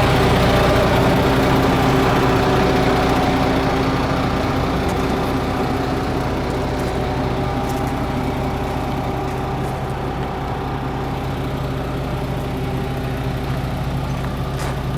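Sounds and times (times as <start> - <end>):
steady hum: 0.0 - 14.1
diesel engine idling: 0.0 - 14.9.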